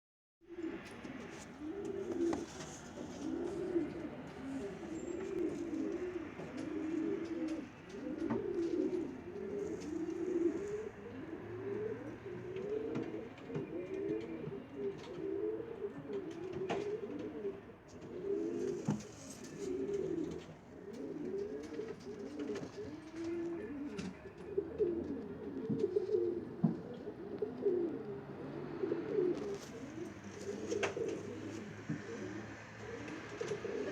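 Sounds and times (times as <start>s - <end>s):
pigeons cooing: 0.5s - 33.9s.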